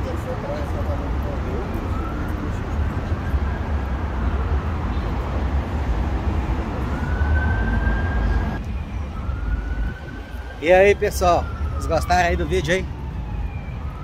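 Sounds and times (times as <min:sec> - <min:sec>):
faint siren wailing: 0:00.0 - 0:14.0
low rumble of city traffic: 0:00.0 - 0:14.0.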